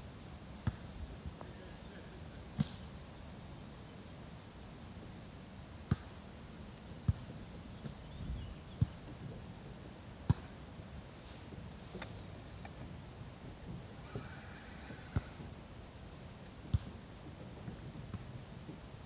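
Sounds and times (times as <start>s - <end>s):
faint open-air background hiss: 0.0s - 19.0s.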